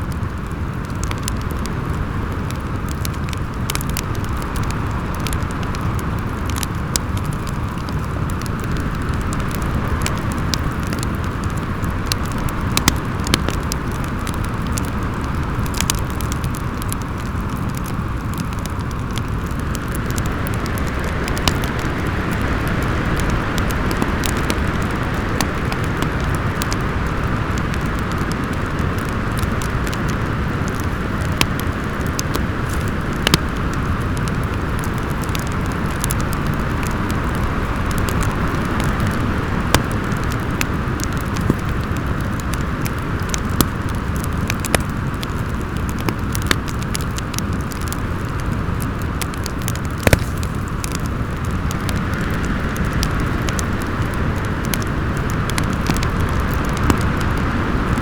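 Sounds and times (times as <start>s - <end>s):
rushing wind: 0.0s - 58.0s
wood fire crackling: 0.0s - 58.0s.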